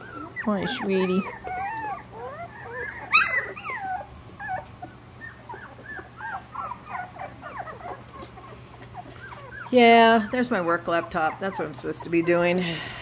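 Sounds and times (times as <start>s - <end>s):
puppy yelp: 0.0s - 12.4s
puppies whimpering and squeaking: 0.0s - 12.8s.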